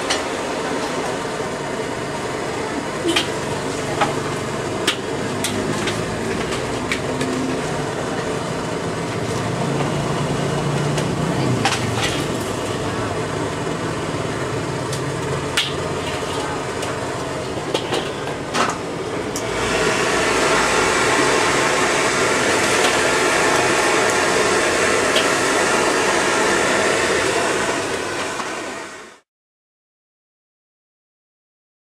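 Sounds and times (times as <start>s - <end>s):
wok sizzling: 0.0s - 29.2s.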